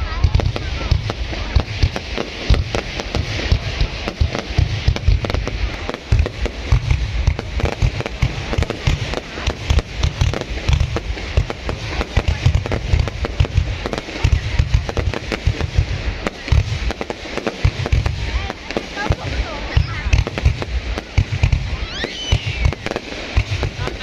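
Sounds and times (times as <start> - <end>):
firework shells bursting: 0.3 - 24.0.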